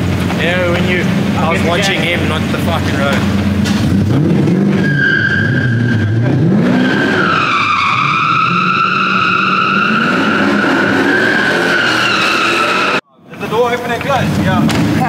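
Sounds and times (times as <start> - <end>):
car engine revving: 0.0 - 13.0
car tyres squealing: 0.6 - 13.0.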